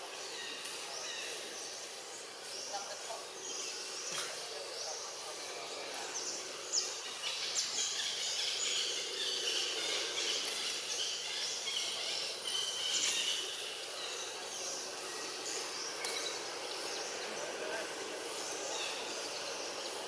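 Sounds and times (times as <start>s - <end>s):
birds chirping: 0.0s - 20.0s
insects buzzing: 0.0s - 20.0s.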